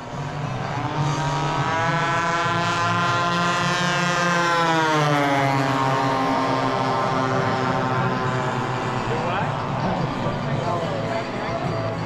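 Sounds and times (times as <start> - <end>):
model airplane engines droning: 0.0 - 12.0.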